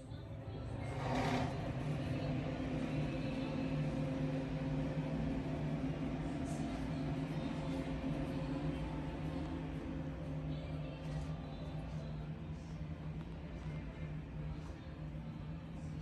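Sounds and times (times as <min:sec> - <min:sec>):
machine motor humming: 0:00.6 - 0:16.0.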